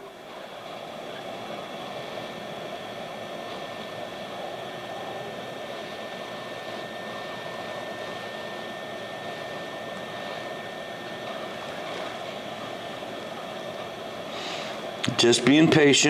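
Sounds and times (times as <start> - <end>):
hot air station hiss: 0.0 - 16.0
thin steady whine: 0.0 - 16.0.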